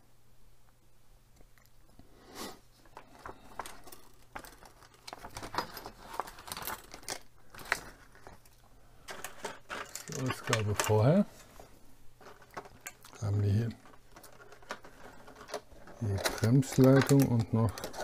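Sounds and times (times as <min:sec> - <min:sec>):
plastic parts clicking and rustling: 0:02.8 - 0:18.0.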